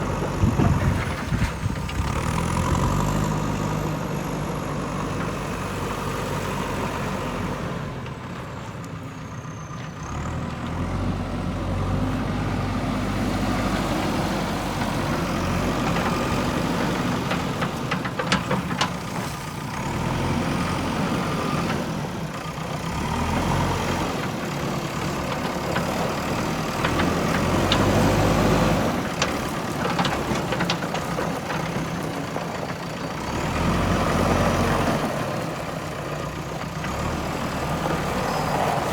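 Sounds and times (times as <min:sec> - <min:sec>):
diesel engine working: 0:00.0 - 0:38.9.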